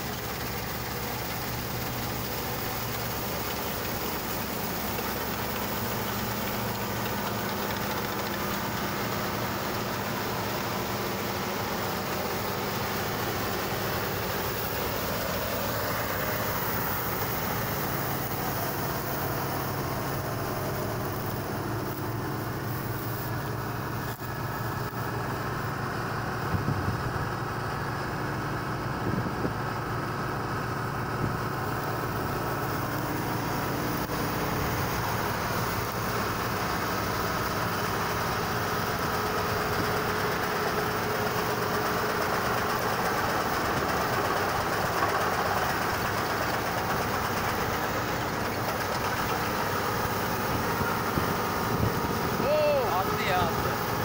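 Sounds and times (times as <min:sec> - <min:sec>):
combine harvester engine: 0:00.0 - 0:54.0
rattle of threshing machinery: 0:00.0 - 0:54.0.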